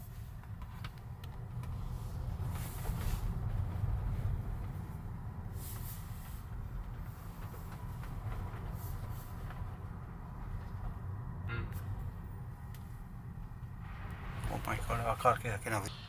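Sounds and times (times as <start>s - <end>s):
vehicle rumble from inside: 0.0s - 16.0s.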